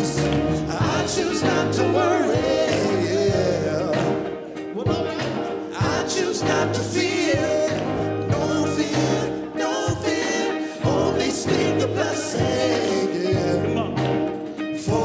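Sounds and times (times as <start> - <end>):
gospel singers: 0.0 - 15.0
keyboard accompaniment: 0.0 - 15.0
sharp beats: 0.0 - 15.0.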